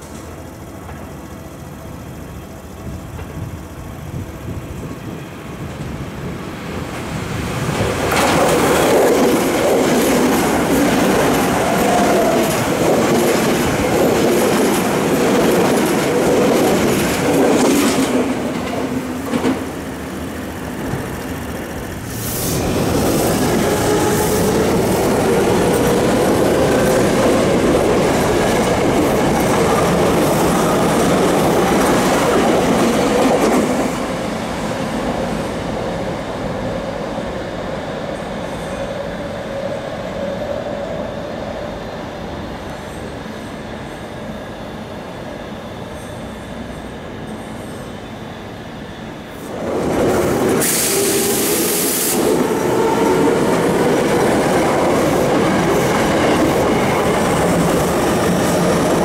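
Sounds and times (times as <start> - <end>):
electric train running past: 0.0 - 59.0.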